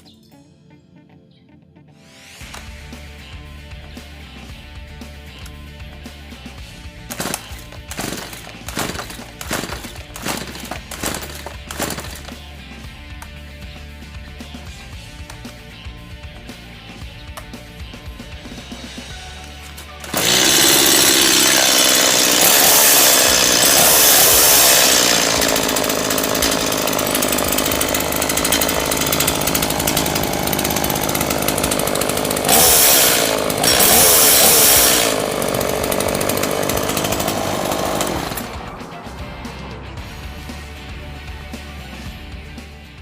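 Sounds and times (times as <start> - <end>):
small chainsaw engine running: 3.7 - 38.8.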